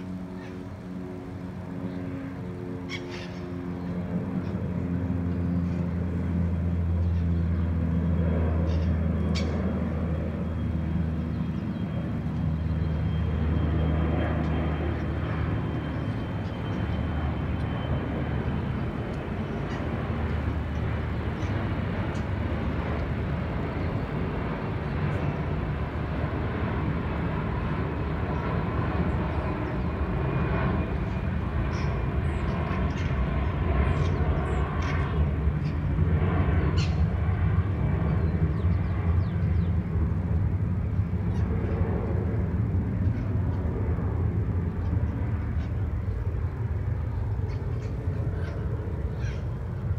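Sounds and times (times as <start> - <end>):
low outdoor rumble: 0.0 - 49.9.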